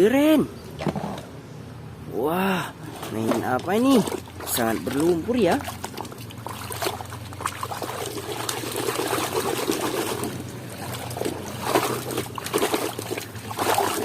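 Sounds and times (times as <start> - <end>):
water trickling and splashing: 2.6 - 14.0.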